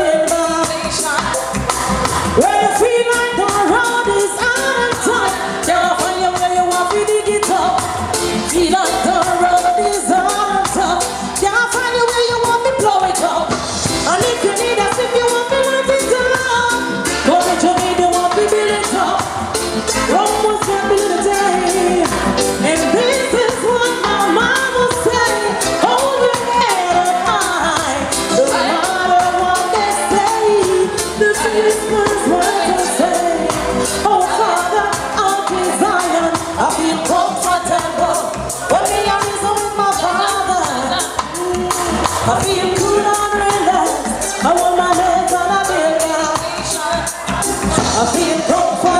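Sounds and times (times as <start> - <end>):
reggae music over sound system: 0.0 - 48.9
woman singing: 0.0 - 48.9.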